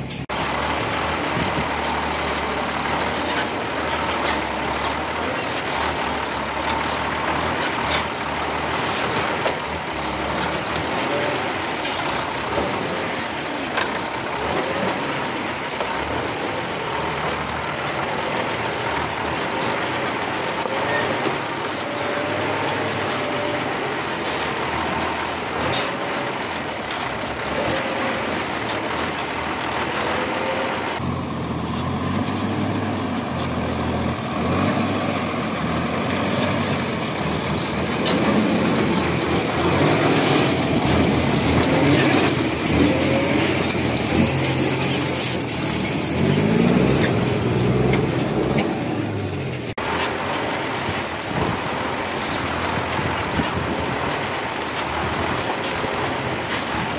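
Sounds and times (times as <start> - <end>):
deep engine rumble: 0.0 - 56.9
truck driving over rocky track: 0.0 - 56.9.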